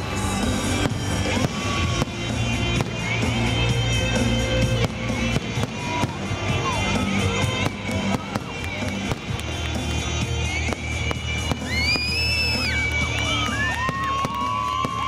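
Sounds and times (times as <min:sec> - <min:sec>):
fireworks bursting with sharp bangs: 0:00.0 - 0:15.0
loud music: 0:00.0 - 0:15.0.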